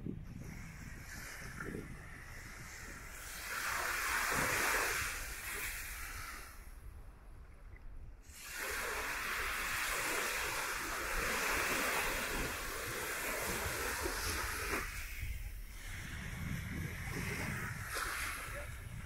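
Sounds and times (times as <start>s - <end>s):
surf washing onto beach: 0.6s - 6.4s, 8.3s - 19.0s.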